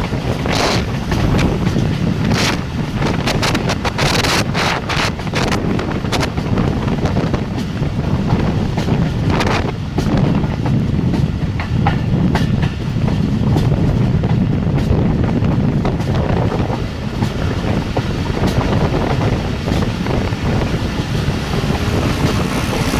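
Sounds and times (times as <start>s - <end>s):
train rumble: 0.0s - 22.9s
wheels clacking over rail joints: 0.0s - 22.9s
wind buffeting microphone: 0.0s - 22.9s.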